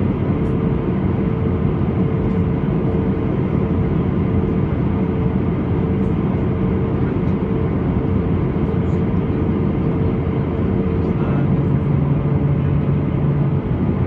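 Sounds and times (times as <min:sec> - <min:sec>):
airplane cabin engine drone: 0:00.0 - 0:14.0.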